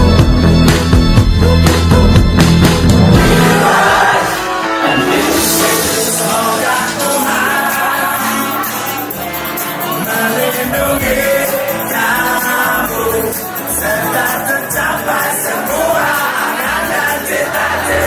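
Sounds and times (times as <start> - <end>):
song with singing and band: 0.0 - 18.0.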